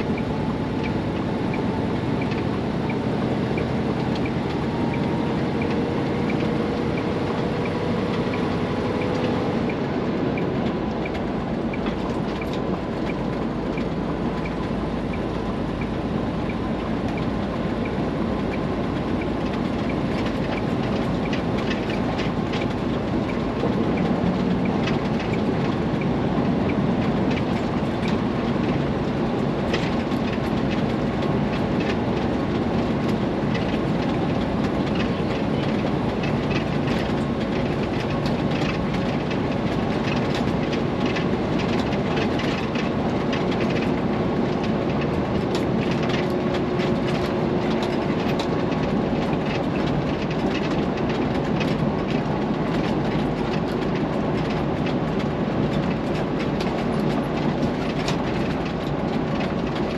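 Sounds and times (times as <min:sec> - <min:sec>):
cab rattles and clicks: 0:00.0 - 0:59.9
truck engine and tyre drone: 0:00.0 - 0:59.9.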